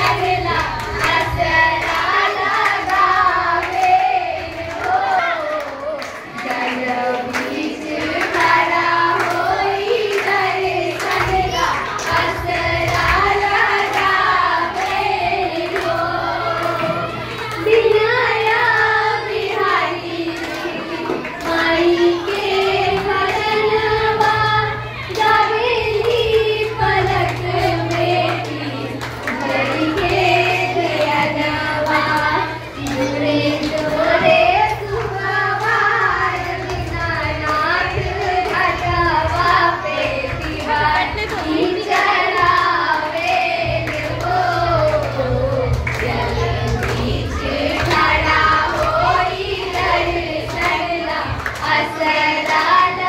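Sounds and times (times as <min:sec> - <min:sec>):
girls singing folk song: 0:00.0 - 0:53.0.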